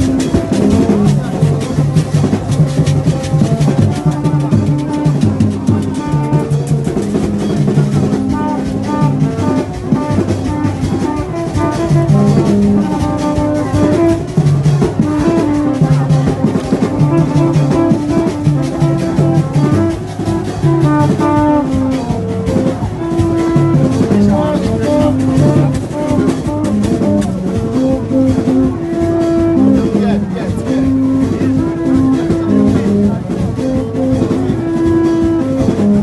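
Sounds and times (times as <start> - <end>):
upbeat band music: 0.0 - 36.0.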